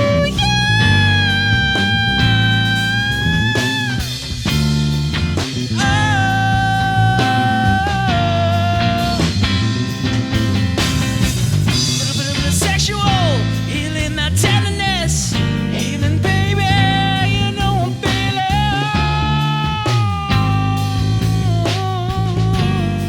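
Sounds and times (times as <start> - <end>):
drums: 0.0 - 23.0
electric bass: 0.0 - 23.0
live band playing instrumental: 0.0 - 23.0.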